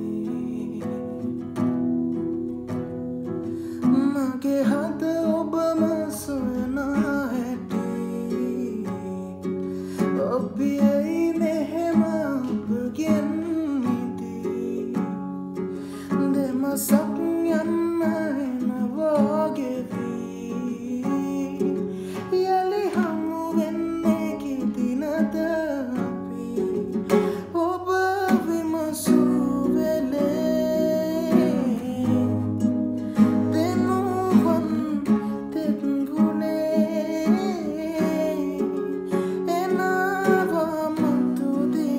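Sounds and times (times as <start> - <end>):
man singing: 0.0 - 1.8, 3.8 - 41.9
acoustic guitar: 0.0 - 41.9.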